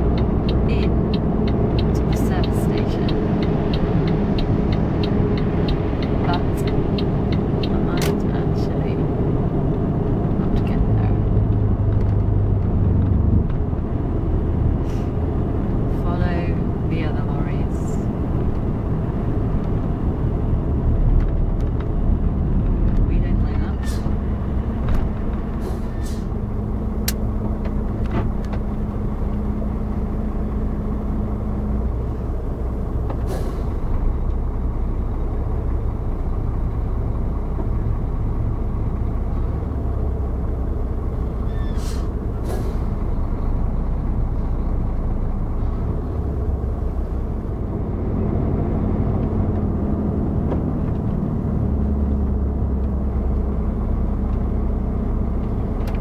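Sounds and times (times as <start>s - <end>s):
vehicle engine and tyres drone: 0.0s - 56.0s.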